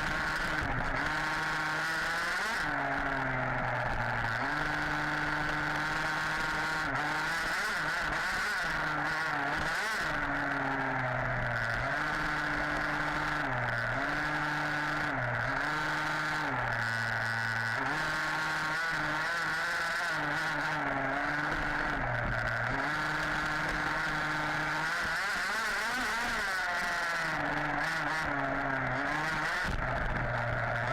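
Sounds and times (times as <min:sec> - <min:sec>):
small two-stroke engine revving: 0:00.0 - 0:30.9.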